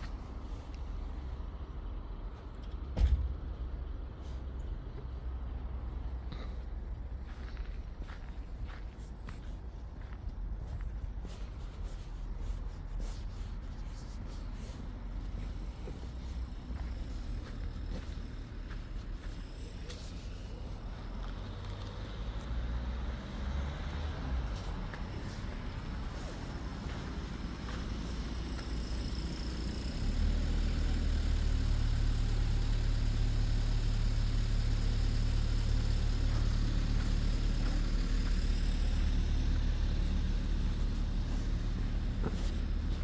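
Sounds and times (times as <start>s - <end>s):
train engine rumble: 0.0s - 43.0s.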